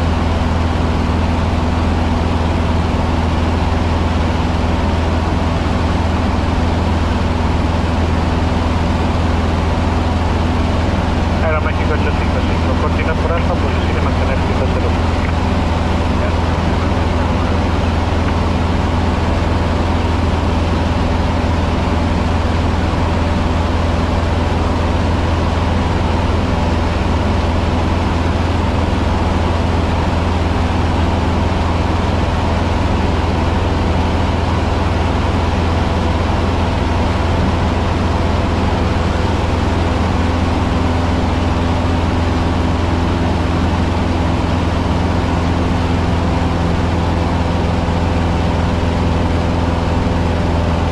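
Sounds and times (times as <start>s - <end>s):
light aircraft engine and propeller drone: 0.0s - 50.9s.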